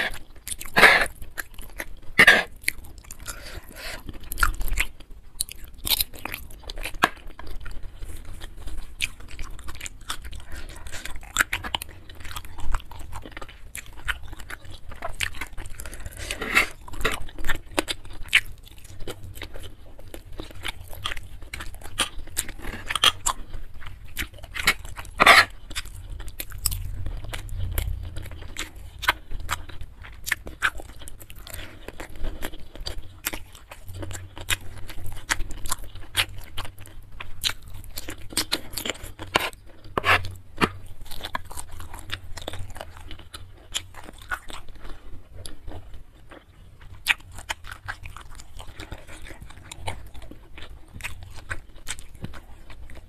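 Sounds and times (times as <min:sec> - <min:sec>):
chewing and wet mouth sounds: 0:00.0 - 0:53.0
faint low hum: 0:00.0 - 0:53.0.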